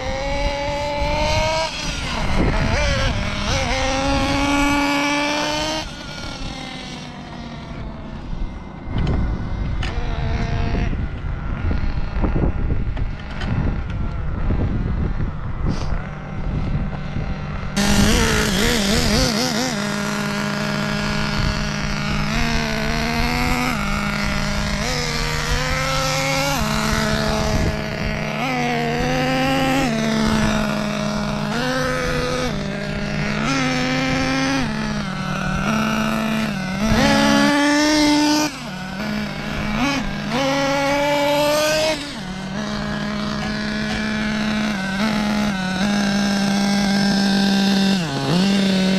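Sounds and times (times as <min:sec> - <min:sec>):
model car engine revving: 0:00.0 - 0:14.4, 0:15.4 - 0:48.9.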